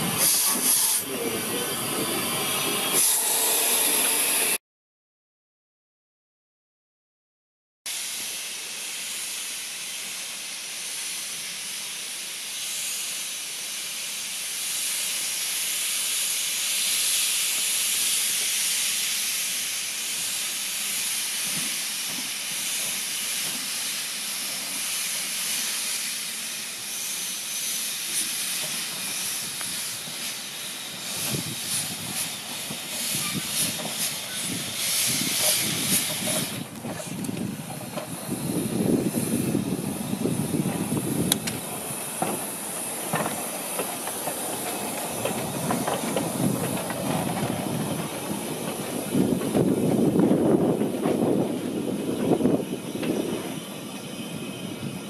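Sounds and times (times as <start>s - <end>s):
steam locomotive puffs and knocks: 0.0s - 4.5s, 7.9s - 55.0s
steam hissing: 0.0s - 4.6s, 7.9s - 55.0s.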